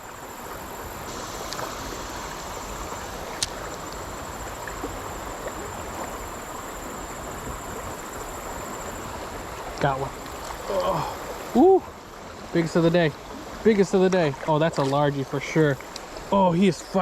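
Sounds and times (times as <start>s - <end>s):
creek water over rocks: 0.0s - 17.0s.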